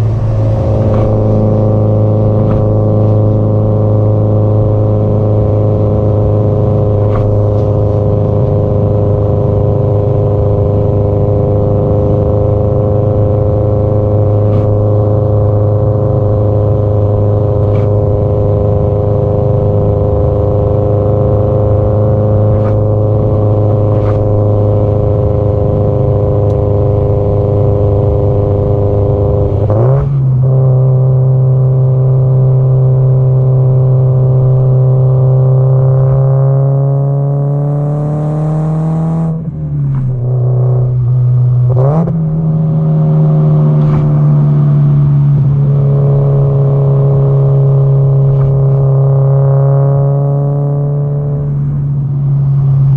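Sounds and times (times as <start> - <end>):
car exhaust note revving: 0.0 - 52.9.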